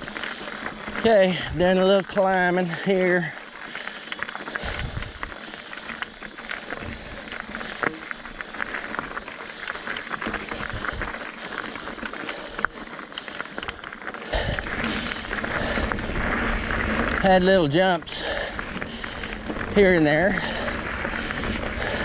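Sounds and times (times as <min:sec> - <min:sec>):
bike clicks and rattles: 0:00.0 - 0:22.0
tyres crunching over dirt: 0:00.0 - 0:22.0.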